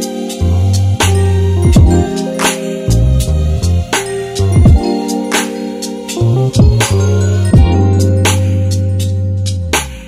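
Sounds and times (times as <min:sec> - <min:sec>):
instrumental beat music: 0:00.0 - 0:10.0.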